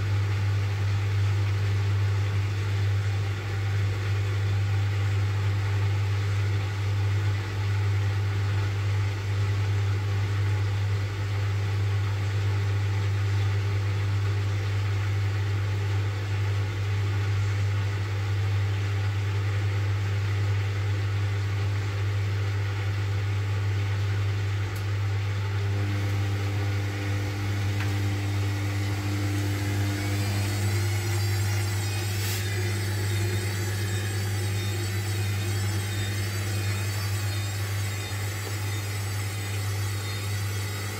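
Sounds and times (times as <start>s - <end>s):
washing machine drain pump humming: 0.0s - 40.9s.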